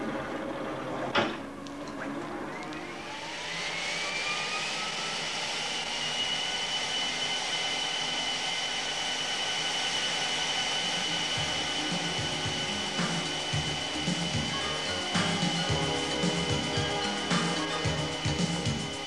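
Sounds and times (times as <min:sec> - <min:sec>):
vacuum motor whining: 0:00.0 - 0:19.0.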